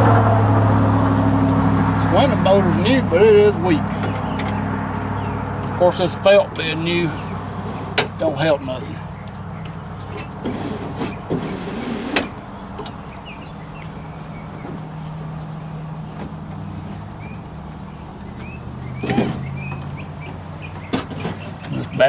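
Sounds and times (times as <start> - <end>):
insect trill: 0.0 - 22.0
power window motor humming: 0.0 - 22.0.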